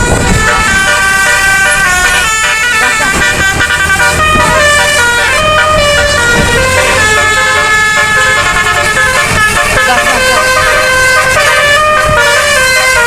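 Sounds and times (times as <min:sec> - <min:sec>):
musical air horn playing a tune: 0:00.0 - 0:13.0.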